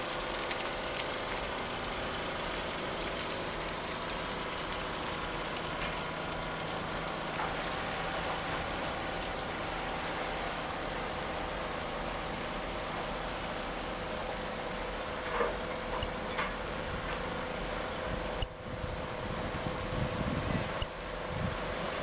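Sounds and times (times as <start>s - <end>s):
ship engine running: 0.0s - 22.0s.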